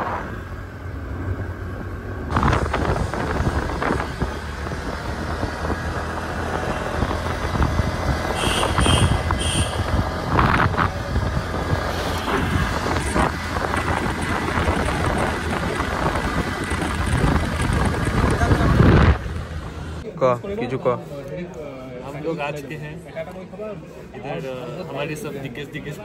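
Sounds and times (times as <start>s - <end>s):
vehicle road noise rumble: 0.0s - 26.0s.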